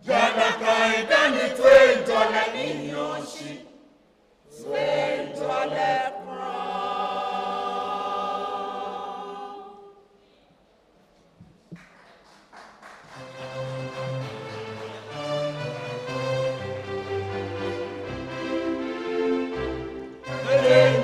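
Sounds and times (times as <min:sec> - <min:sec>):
choir singing: 0:00.0 - 0:10.2, 0:13.6 - 0:21.0.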